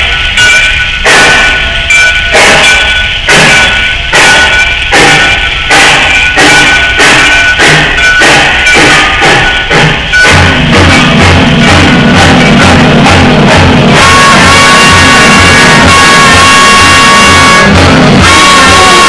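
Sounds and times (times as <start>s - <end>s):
held instrument notes: 0.0s - 19.0s
steady drum beat: 0.0s - 19.0s.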